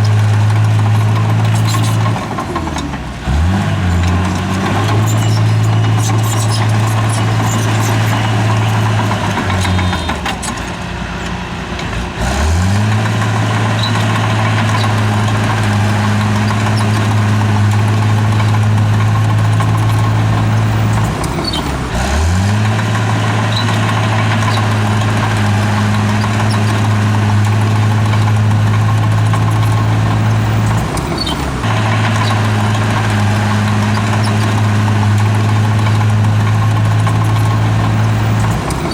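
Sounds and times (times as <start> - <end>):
bulldozer diesel engine revving: 0.0 - 38.9.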